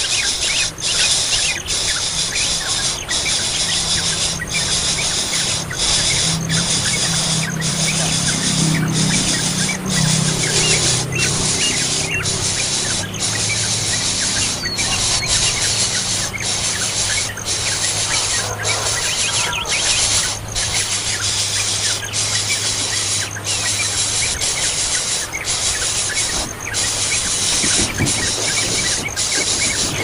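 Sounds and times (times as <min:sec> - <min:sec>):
young birds squealing: 0:00.0 - 0:30.0
low hum: 0:01.6 - 0:30.0.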